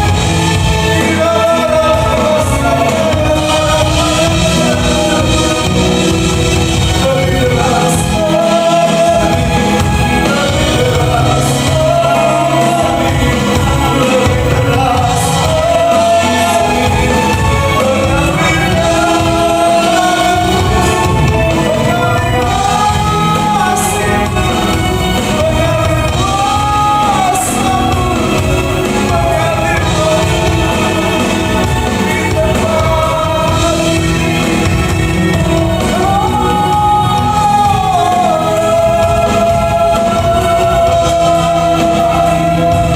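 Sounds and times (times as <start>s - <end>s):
band accompaniment: 0.0s - 42.9s
congregation singing: 0.0s - 42.9s.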